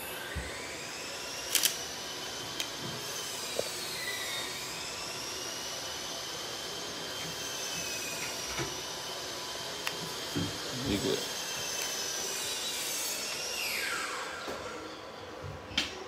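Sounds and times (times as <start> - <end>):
motor whirring: 0.0 - 15.1.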